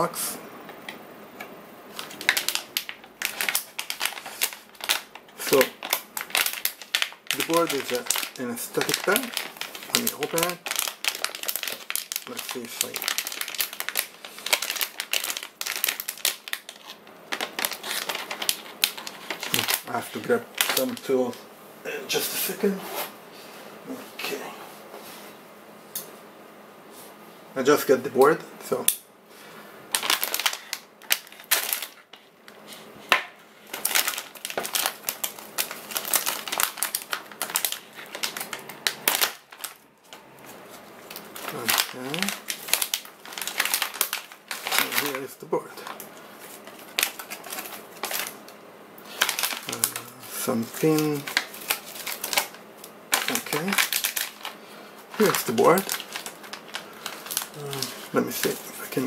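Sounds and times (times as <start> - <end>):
plastic bag crinkling: 1.9 - 21.4, 29.9 - 59.0.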